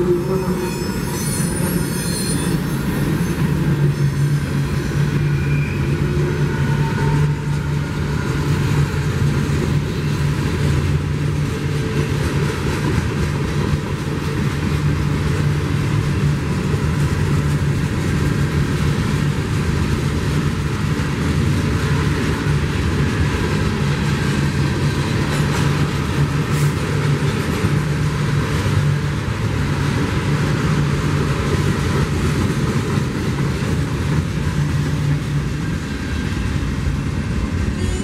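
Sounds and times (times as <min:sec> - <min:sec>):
freight train wheel and rail noise: 0:00.0 - 0:38.0.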